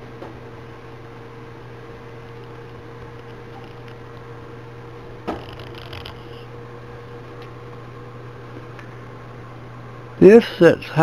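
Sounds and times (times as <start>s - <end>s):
fireplace blower humming: 0.0s - 11.0s.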